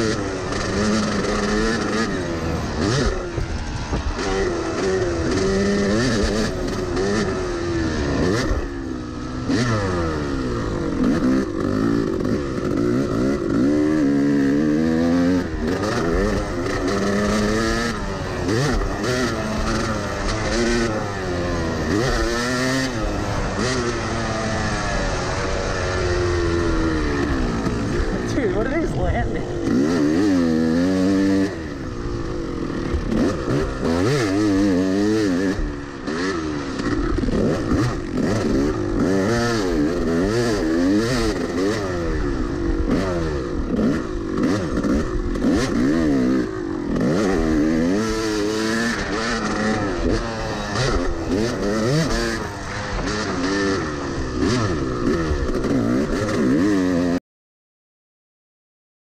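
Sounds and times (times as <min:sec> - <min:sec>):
motocross bike engine revving: 0:00.0 - 0:57.2.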